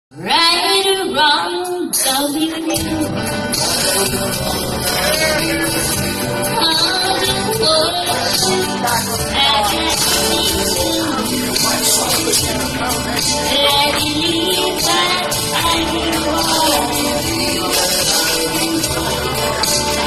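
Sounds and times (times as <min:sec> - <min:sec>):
woman singing into microphone: 0:00.1 - 0:20.0
backing track with bass and drums: 0:02.0 - 0:20.0.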